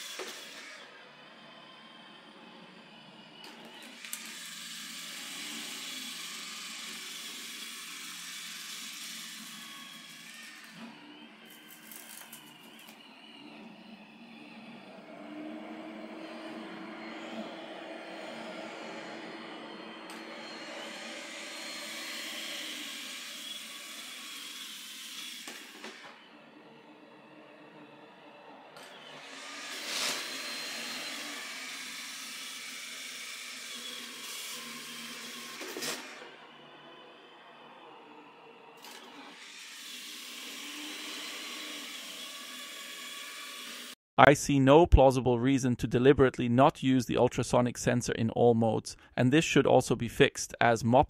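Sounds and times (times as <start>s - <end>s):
robot vacuum running: 0.0s - 44.0s.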